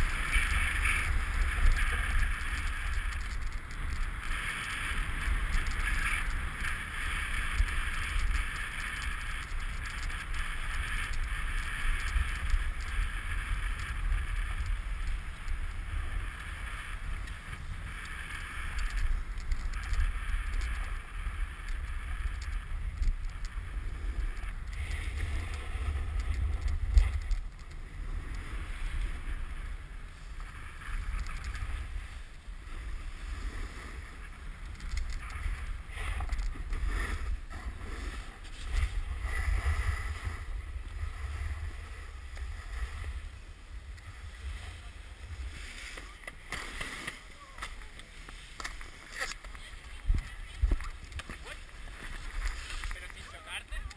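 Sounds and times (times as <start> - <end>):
snowboard scraping over snow: 0.0 - 53.9.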